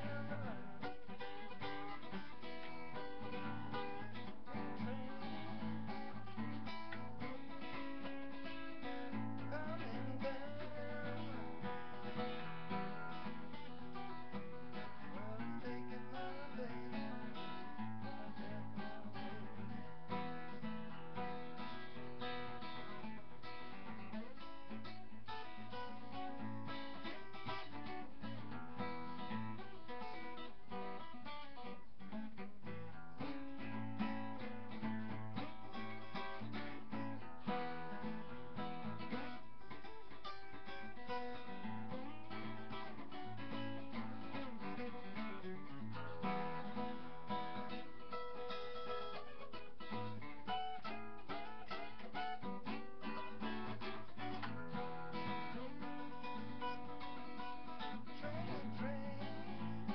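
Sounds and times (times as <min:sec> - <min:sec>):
acoustic guitar strummed and picked: 0:00.0 - 0:59.9.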